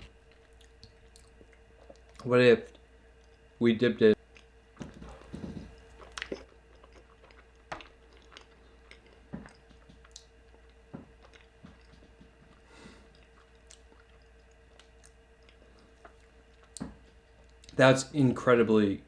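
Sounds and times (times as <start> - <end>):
person chewing: 0.0 - 3.5, 4.2 - 17.8.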